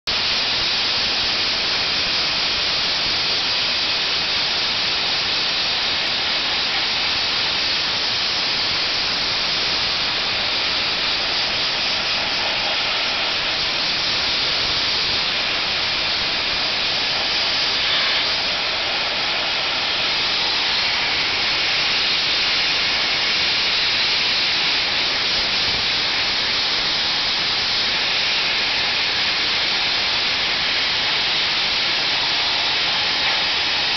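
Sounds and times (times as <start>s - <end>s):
compressed air hissing: 0.1s - 33.9s.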